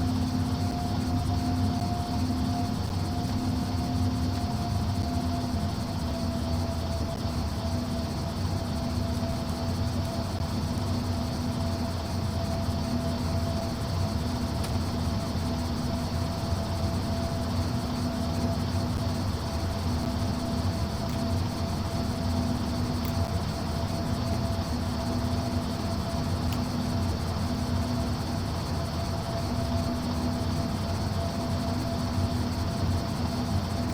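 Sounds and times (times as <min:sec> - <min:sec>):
airliner engines humming: 0:00.0 - 0:33.9.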